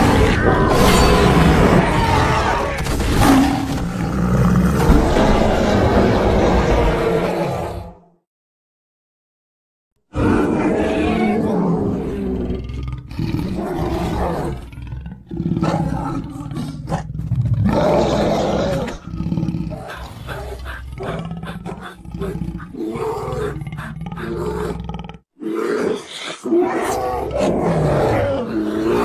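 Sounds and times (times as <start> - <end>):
roar and growl effects: 0.0 - 8.2, 10.1 - 29.0.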